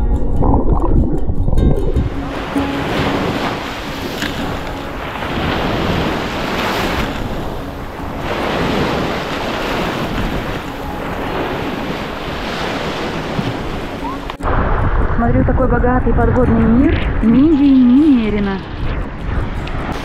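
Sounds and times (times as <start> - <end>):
waves washing: 0.0 - 20.0
wind buffeting microphone: 0.0 - 20.0.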